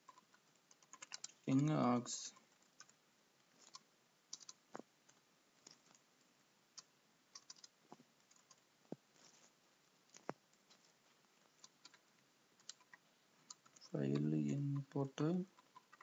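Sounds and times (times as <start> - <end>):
faint keyboard typing: 0.0 - 6.1, 6.7 - 16.0.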